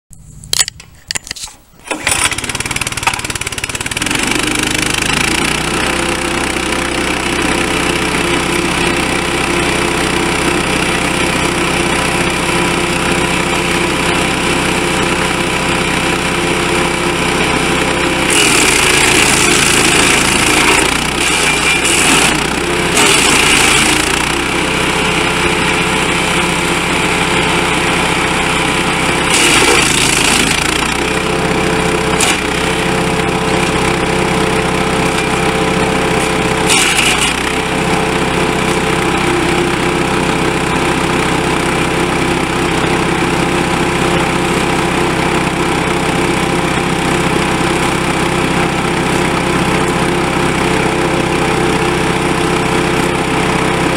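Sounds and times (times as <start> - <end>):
petrol engine running: 0.1 - 53.9.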